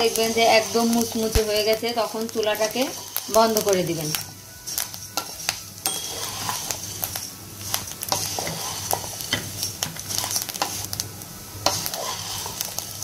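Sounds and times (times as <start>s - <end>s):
frying sizzle: 0.0s - 13.0s
rice scraping in pan: 0.0s - 13.0s.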